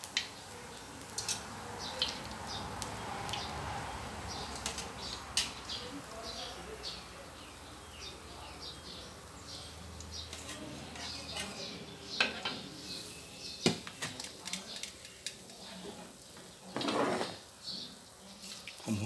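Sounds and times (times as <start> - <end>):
oil sizzling in a wok: 0.0 - 18.8.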